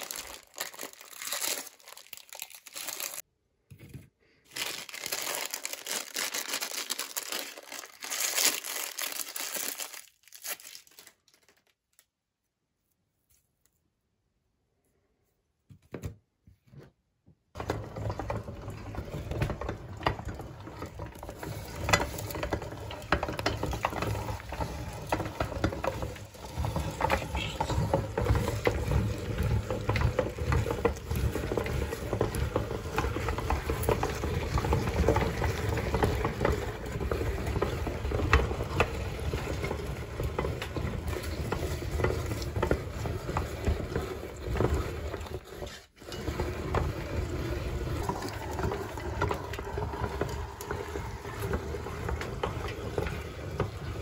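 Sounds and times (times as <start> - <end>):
meat grinder grinding ice cream: 0.0 - 3.2, 4.5 - 11.1, 17.6 - 54.0.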